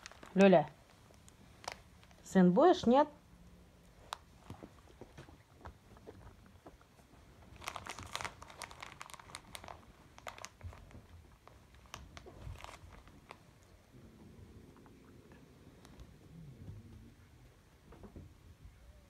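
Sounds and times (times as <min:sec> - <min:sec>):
crinkling and crunching crackles: 0:00.0 - 0:03.1, 0:03.8 - 0:18.7.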